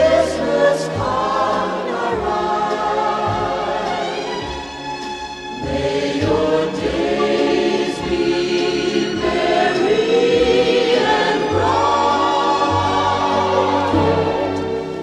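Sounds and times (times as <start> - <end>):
choir singing held notes: 0.0 - 4.7, 5.5 - 15.0.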